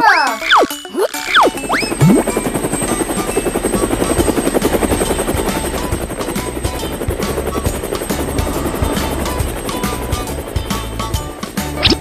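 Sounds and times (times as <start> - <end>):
cartoon helicopter rotor chop: 0.3 - 12.0.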